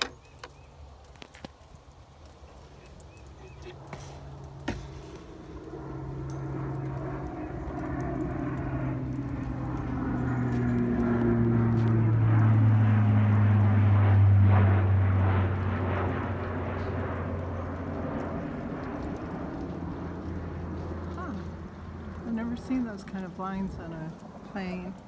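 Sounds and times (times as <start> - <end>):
propeller airplane engine drone: 0.0 - 25.0.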